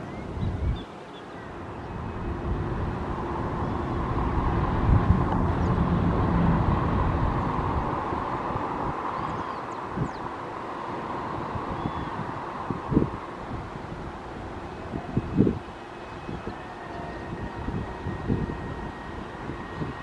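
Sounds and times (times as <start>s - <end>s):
jet engines during landing: 0.0s - 20.0s.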